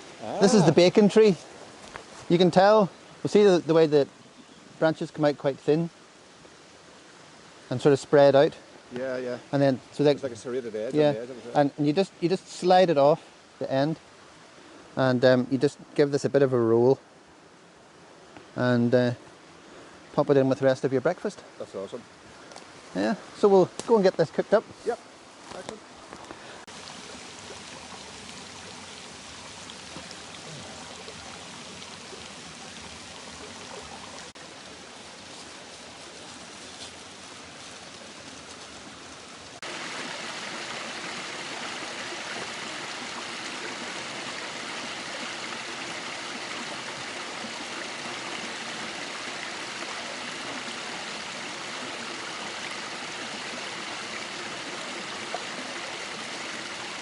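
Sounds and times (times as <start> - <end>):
river water rushing: 0.0 - 15.0, 24.9 - 57.0.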